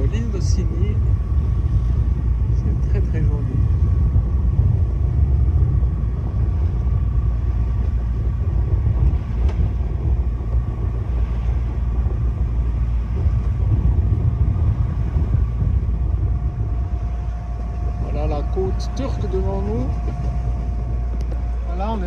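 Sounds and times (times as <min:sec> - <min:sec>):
boat motor rumbling: 0:00.0 - 0:22.0
faint high whine: 0:00.0 - 0:22.0.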